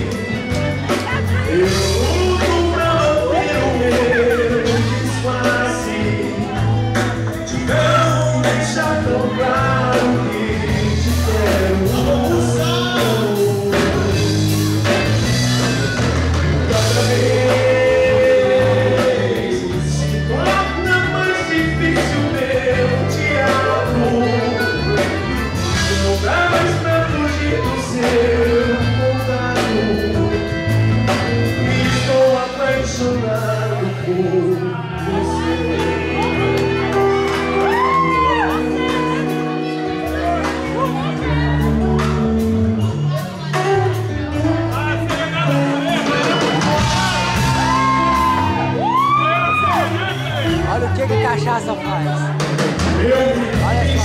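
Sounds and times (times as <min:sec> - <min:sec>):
man singing: 0:00.0 - 0:16.0, 0:16.6 - 0:54.0
live band through a pa: 0:00.0 - 0:54.0.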